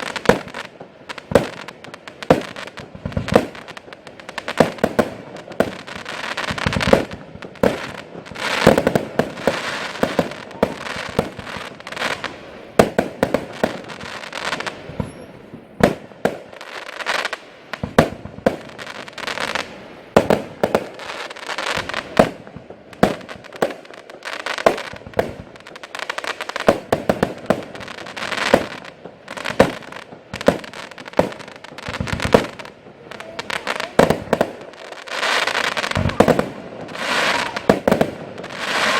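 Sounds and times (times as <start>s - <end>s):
fireworks bangs: 0.0s - 38.9s
fireworks crackling and hiss: 0.0s - 38.9s.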